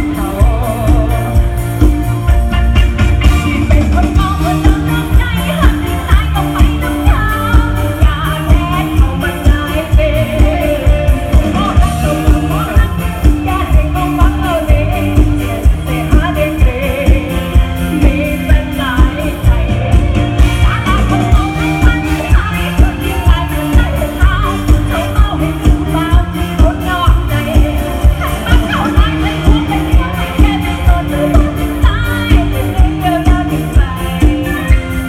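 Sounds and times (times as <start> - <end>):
live band playing: 0.0 - 35.0
person singing: 0.0 - 35.0
steady drum beat: 0.0 - 35.0.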